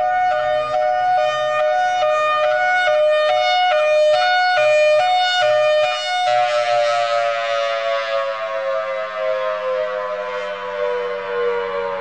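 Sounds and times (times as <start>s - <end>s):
warning siren high-low tone: 0.0s - 12.0s.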